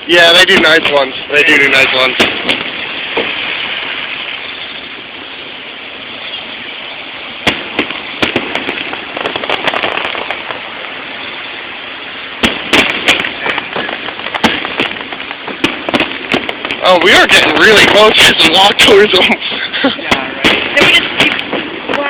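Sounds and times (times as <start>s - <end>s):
crackling firework reports: 0.0s - 22.0s
crowd and street noise: 0.0s - 22.0s
distant firework bangs: 0.0s - 22.0s.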